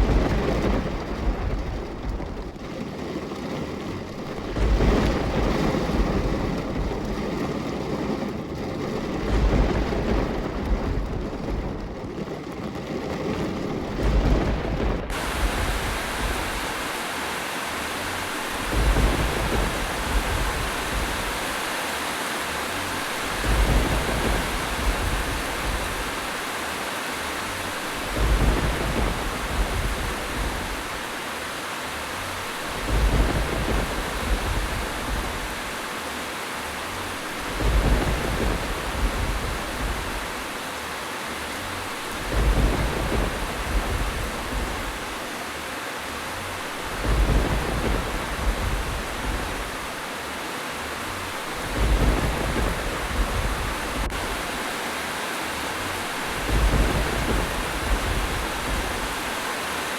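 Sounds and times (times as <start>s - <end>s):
low rumbles: 0.0s - 54.9s, 55.5s - 59.8s
steady rain: 0.0s - 59.9s.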